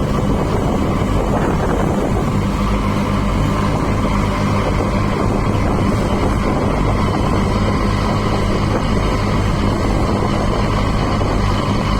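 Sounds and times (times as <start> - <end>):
motorboat engine running: 0.0 - 11.9.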